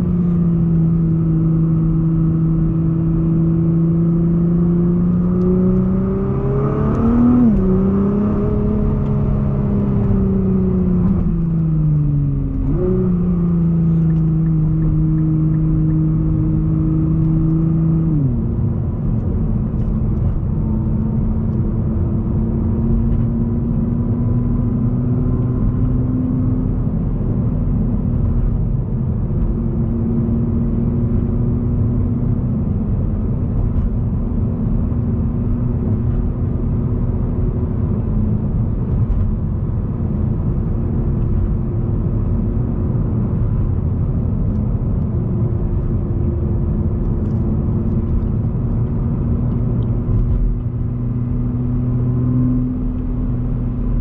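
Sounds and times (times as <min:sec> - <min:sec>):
car cruising with tyre noise: 0:00.0 - 0:54.0
faint engine hum: 0:00.0 - 0:54.0.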